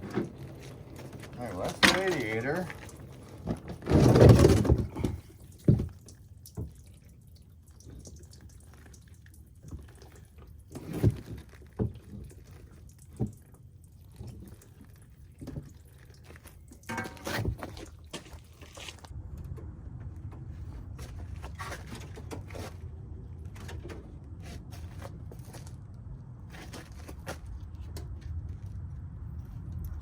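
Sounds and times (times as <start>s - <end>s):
coolant draining and dripping: 0.0s - 30.0s.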